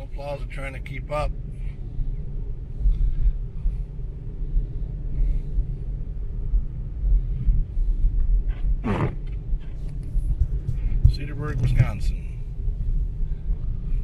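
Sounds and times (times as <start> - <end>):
car driving on snowy road: 0.0 - 14.0.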